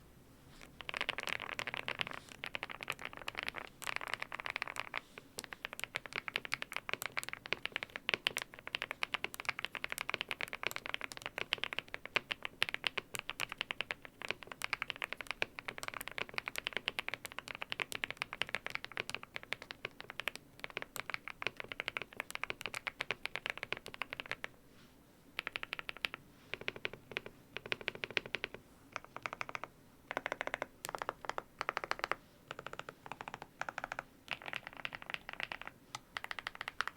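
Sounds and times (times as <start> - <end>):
mechanical keyboard typing: 0.8 - 24.5, 25.4 - 36.9.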